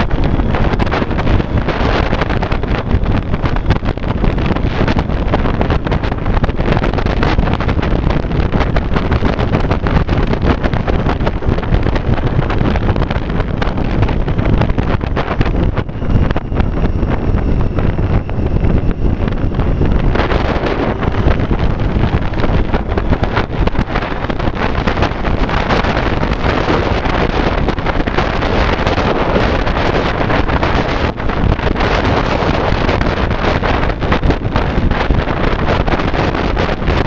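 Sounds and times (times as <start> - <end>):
motorcycle engine running: 0.0 - 37.0
wind rushing over microphone: 0.0 - 37.0.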